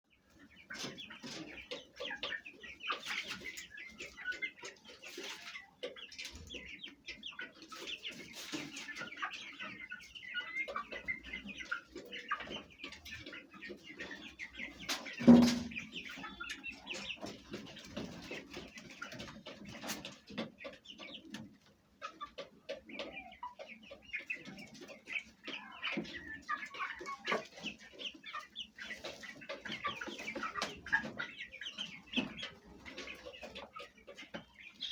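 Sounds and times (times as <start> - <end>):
chicks cheeping: 0.1 - 34.9
hens clucking: 0.1 - 34.9.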